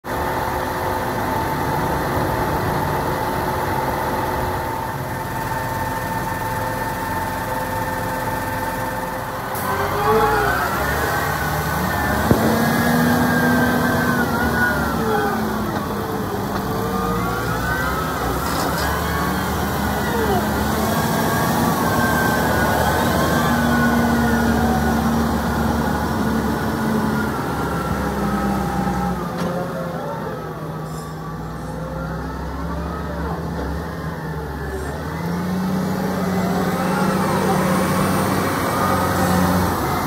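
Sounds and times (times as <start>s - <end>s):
tractor diesel engine: 0.0s - 40.0s.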